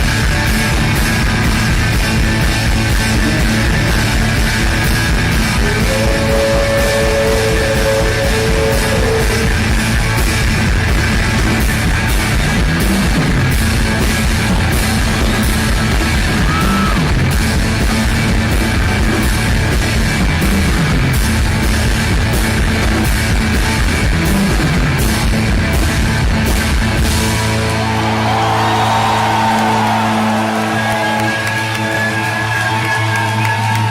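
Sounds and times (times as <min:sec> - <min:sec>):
drums: 0:00.0 - 0:33.9
rock music: 0:00.0 - 0:33.9.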